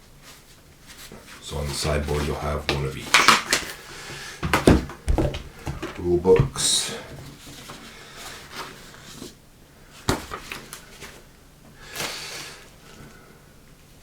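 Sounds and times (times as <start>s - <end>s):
paper and cardboard rustling: 0.1s - 12.6s.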